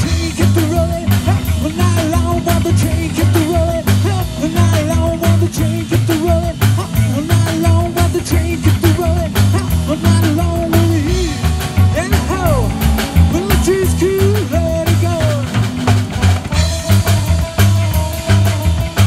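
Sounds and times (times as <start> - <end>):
drum kit: 0.0 - 19.0
electric guitar lead: 0.0 - 19.0
upright bass: 0.0 - 19.0.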